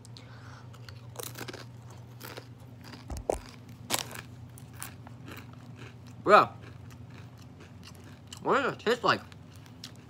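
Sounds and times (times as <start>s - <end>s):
crunching tortilla chip: 0.8s - 10.0s.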